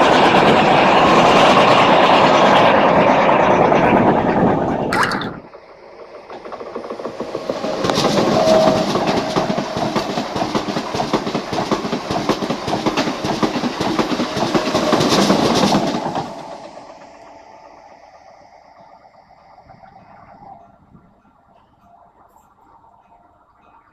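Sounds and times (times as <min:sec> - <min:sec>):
train wheels clattering over rails: 0:00.0 - 0:19.6.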